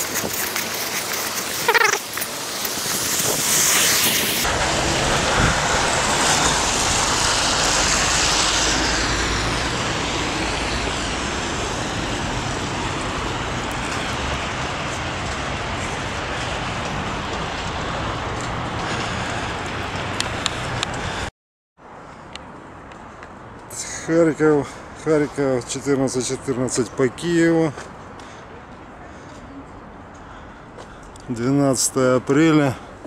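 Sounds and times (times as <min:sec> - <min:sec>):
city road traffic rushing: 0:00.0 - 0:33.0.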